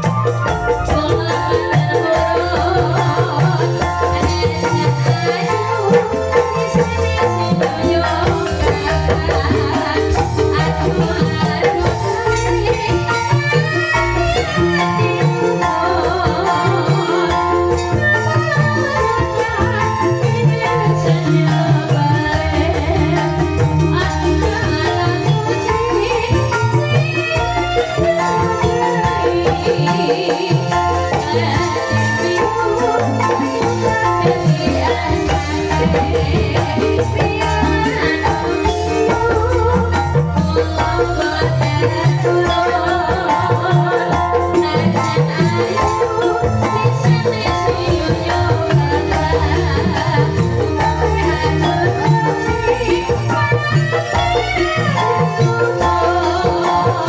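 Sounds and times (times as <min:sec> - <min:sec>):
bamboo xylophones playing: 0:00.0 - 0:57.0
percussion: 0:00.0 - 0:57.0.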